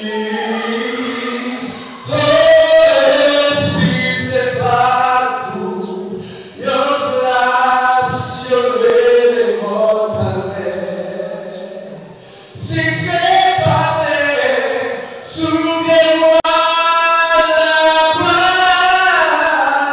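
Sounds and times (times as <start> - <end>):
man singing gospel through pa: 0.0 - 19.9.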